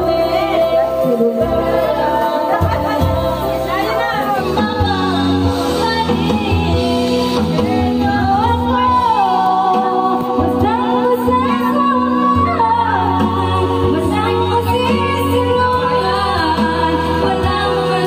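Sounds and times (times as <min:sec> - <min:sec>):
music backing track: 0:00.0 - 0:18.0
woman singing karaoke: 0:00.0 - 0:18.0.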